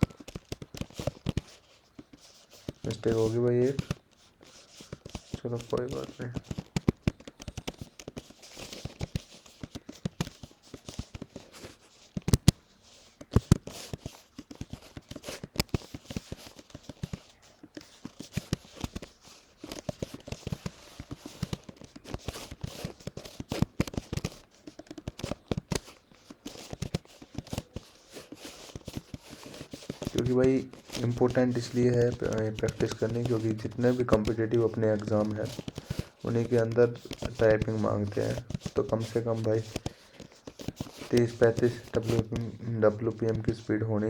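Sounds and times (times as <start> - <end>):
laptop keyboard typing: 0.0 - 44.0.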